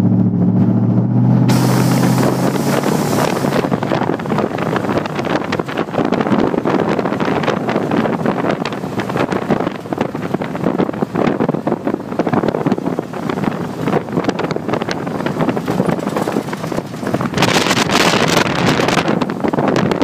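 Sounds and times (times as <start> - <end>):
truck engine running: 0.0 - 20.0
wind buffeting microphone: 1.5 - 20.0.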